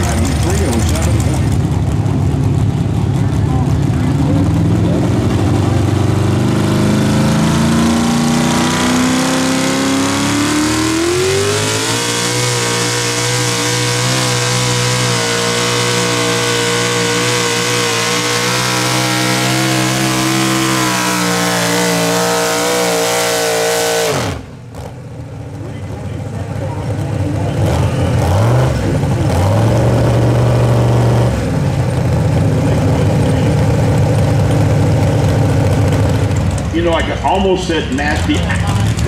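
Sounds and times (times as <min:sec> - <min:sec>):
tractor engine at full throttle: 0:00.0 - 0:39.0.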